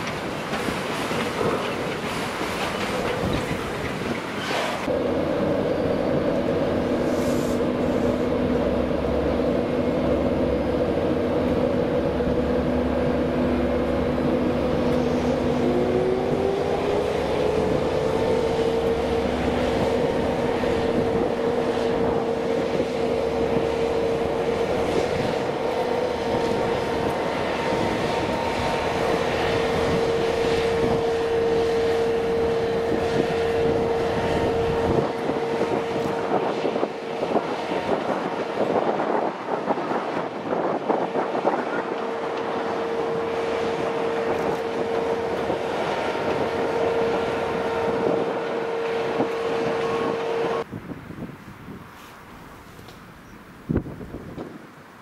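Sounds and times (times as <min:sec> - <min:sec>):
low train rumble: 0:00.0 - 0:55.0
train passing with whine: 0:00.0 - 0:55.0.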